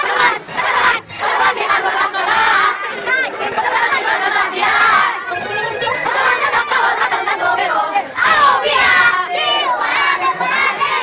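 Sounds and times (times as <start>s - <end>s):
boys shouting and chanting: 0.0s - 11.0s.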